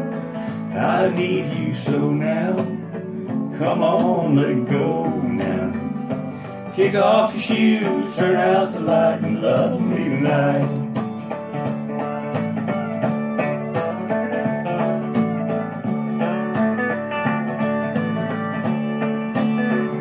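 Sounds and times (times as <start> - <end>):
instrumental country music: 0.0 - 20.0
plucked guitar: 0.0 - 20.0.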